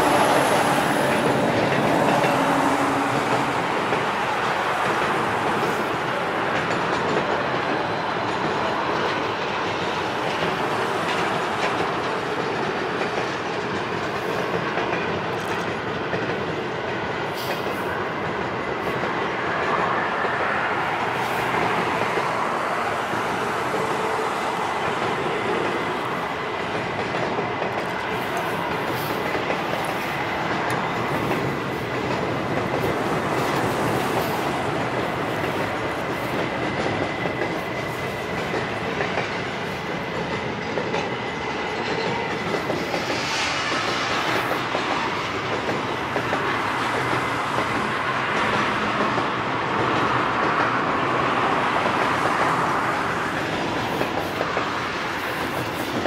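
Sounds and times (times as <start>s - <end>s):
train wheels rumbling on bridge: 0.0s - 56.0s.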